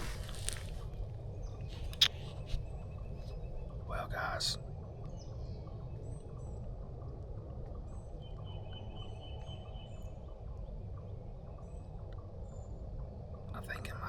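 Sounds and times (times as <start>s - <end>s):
songbirds chirping: 0.0s - 14.0s
wind rumble on microphone: 0.0s - 14.0s.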